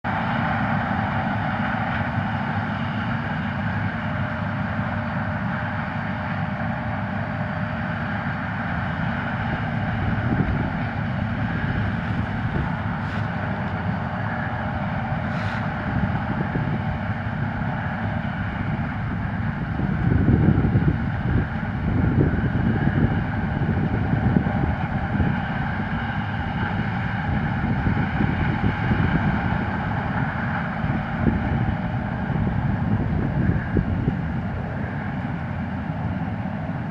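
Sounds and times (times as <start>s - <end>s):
combine and tractor engines running: 0.0s - 36.9s.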